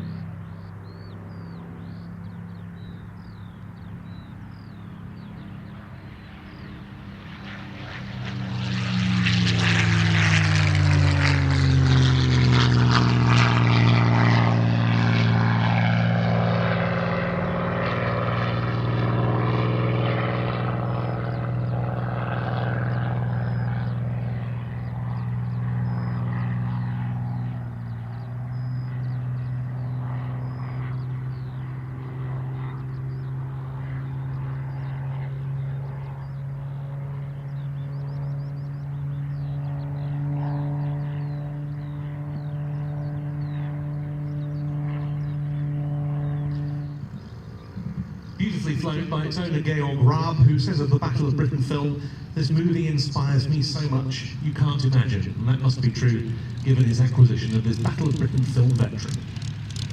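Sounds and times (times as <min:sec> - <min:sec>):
propeller plane engine passing: 0:00.0 - 0:59.9.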